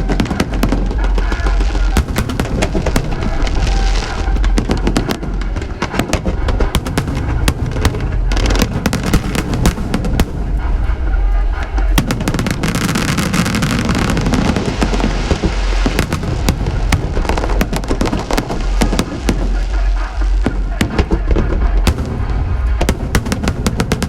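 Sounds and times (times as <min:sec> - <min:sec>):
deep rumble of bursting shells: 0:00.0 - 0:24.0
fireworks bangs and crackles: 0:00.0 - 0:24.0.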